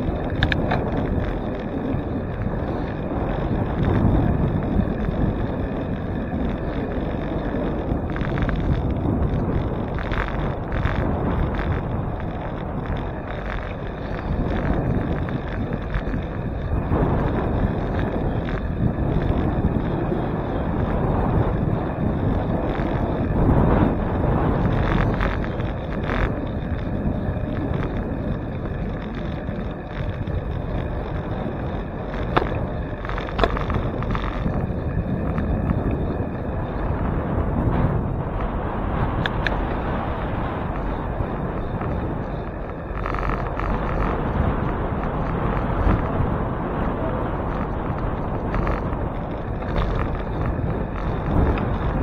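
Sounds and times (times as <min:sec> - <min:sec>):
road and tyre rumble: 0:00.0 - 0:52.0
wind buffeting microphone: 0:00.0 - 0:52.0.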